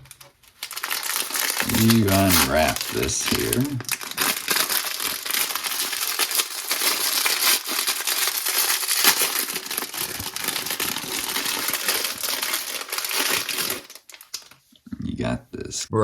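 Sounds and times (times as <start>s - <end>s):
wrapping crinkling: 0.0s - 14.7s.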